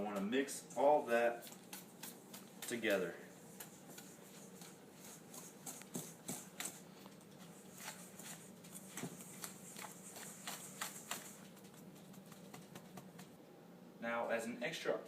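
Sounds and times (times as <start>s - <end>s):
utensil scraping a bowl: 0.7s - 13.2s.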